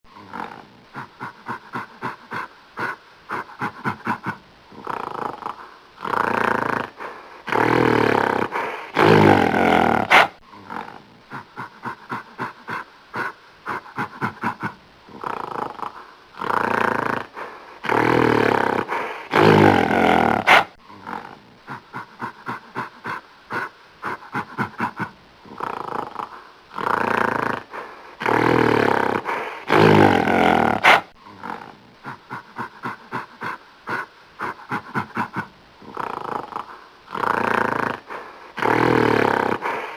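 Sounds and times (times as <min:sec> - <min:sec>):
gorilla grunting: 0:00.1 - 0:39.9
gorilla snarling: 0:00.1 - 0:39.9.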